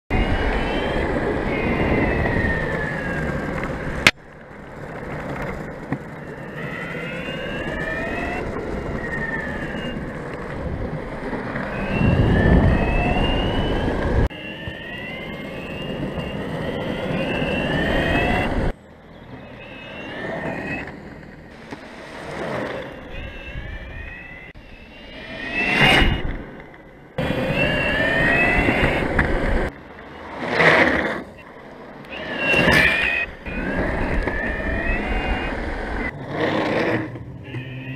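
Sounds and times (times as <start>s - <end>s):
electric motor whine: 0.1s - 4.2s, 5.0s - 37.9s
wheels rumbling on asphalt: 0.1s - 37.9s.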